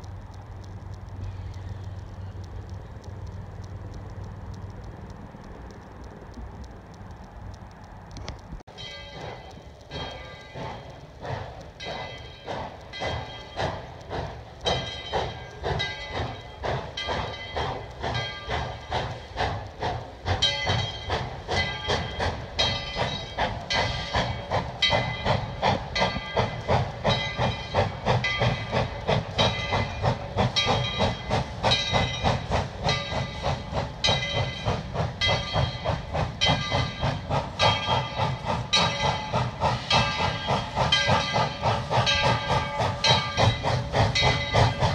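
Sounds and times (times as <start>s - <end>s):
steam hiss: 0.0s - 5.0s, 8.8s - 44.9s
train running noise: 0.0s - 44.9s
locomotive bell ringing: 8.7s - 44.9s.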